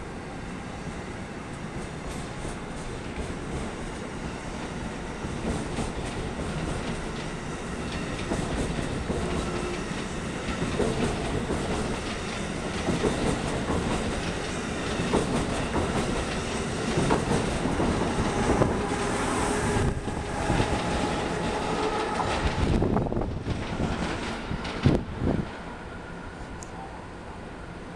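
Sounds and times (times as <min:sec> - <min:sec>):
train passing at speed: 0:00.0 - 0:27.9
electric locomotive hiss: 0:00.4 - 0:23.2.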